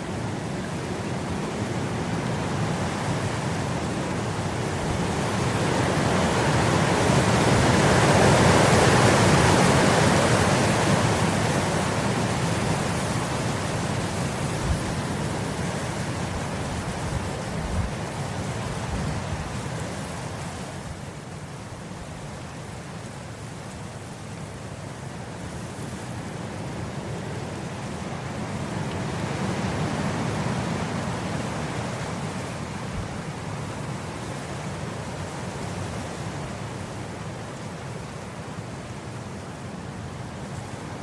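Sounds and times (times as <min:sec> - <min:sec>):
wind blowing across grass: 0:00.0 - 0:41.0.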